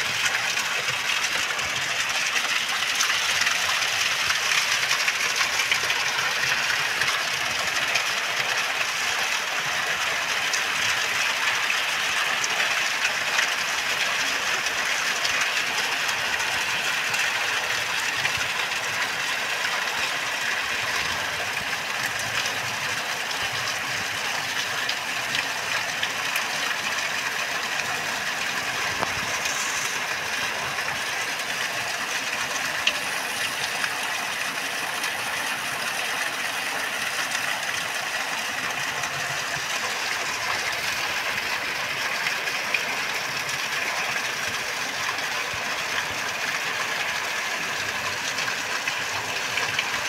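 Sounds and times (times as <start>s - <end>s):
heavy rain pouring: 0.0s - 50.0s.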